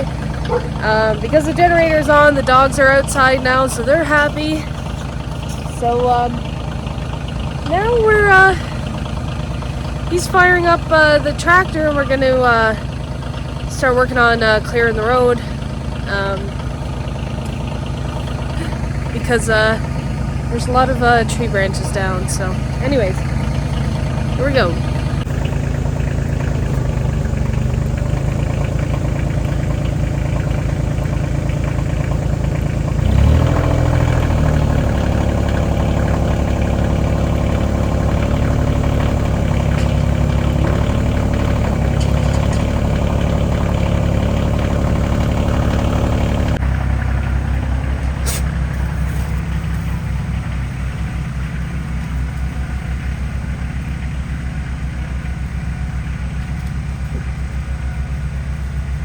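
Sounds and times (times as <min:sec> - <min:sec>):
tractor engine idling and revving: 0:00.0 - 0:59.0.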